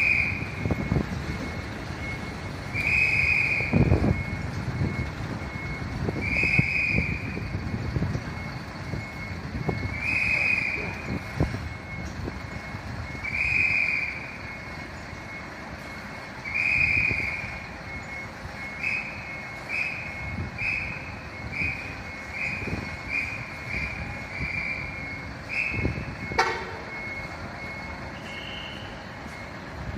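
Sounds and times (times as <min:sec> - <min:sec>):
electronic warning beeps: 0:00.0 - 0:29.9.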